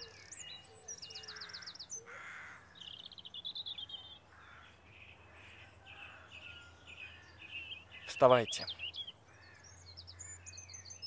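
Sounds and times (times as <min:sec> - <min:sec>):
lower hazy bird calls: 0:00.0 - 0:11.0
small birds chirping and trilling: 0:00.0 - 0:11.0.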